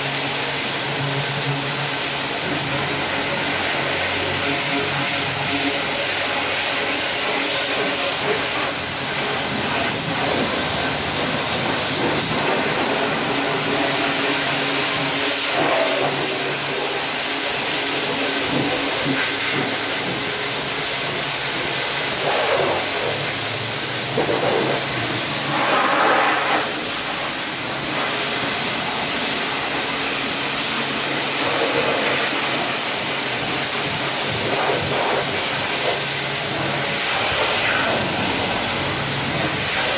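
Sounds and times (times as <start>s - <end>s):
car wash equipment hissing: 0.0s - 39.9s.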